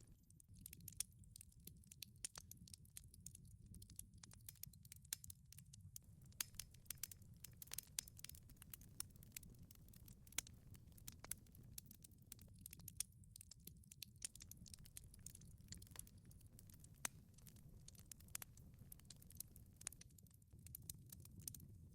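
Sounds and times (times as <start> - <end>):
wood fire crackling: 0.0 - 21.9.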